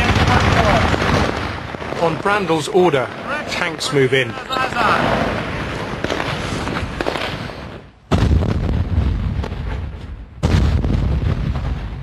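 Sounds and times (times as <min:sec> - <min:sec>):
gunshots crackling: 0:00.0 - 0:12.0.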